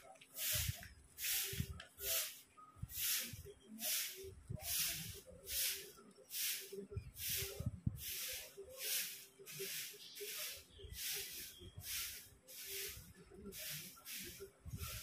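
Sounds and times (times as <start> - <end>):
broom sweeping concrete: 0.2 - 15.0.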